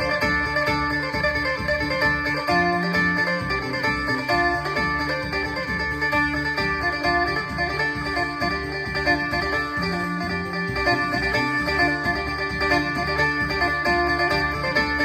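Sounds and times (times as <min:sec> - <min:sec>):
amplified plucked lute melody: 0:00.0 - 0:15.0.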